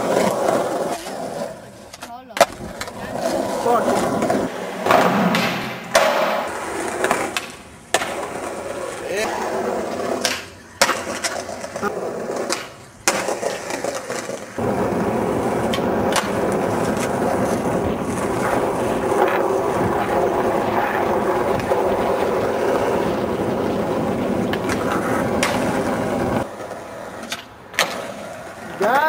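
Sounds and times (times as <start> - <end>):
skateboard clacks: 0.0 - 29.0
skateboard wheels rolling on concrete: 0.0 - 29.0.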